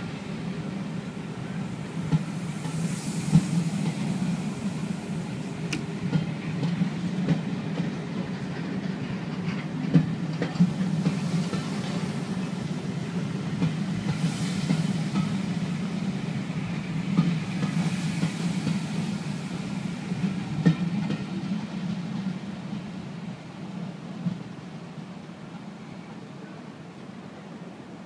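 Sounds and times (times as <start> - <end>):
train coaches rumbling past: 0.0 - 28.0.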